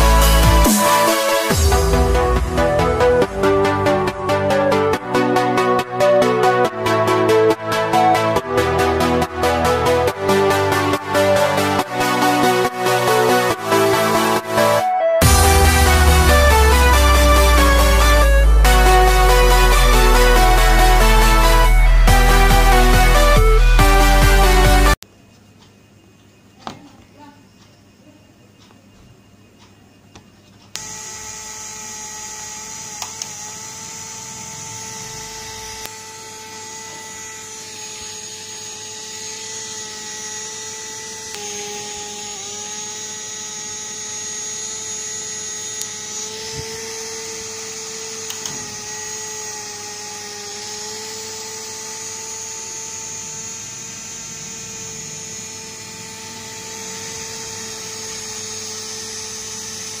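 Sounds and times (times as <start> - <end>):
electric fan motor whine: 0.0 - 25.0, 25.7 - 60.0.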